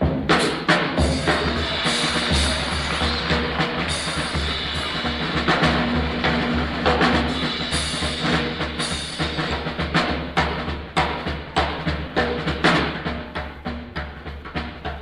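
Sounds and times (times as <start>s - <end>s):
bebop jazz band: 0.0s - 15.0s
cymbals: 0.0s - 15.0s
snare and bass drum hits: 0.0s - 15.0s.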